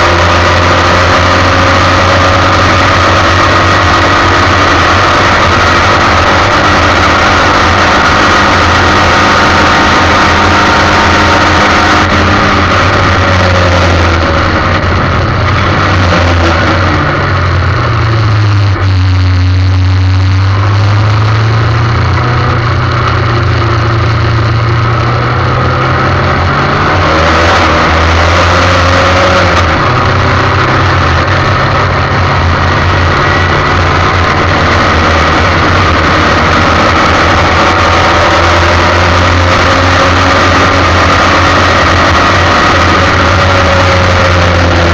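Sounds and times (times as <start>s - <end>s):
race car engine running hard: 0.0s - 44.9s.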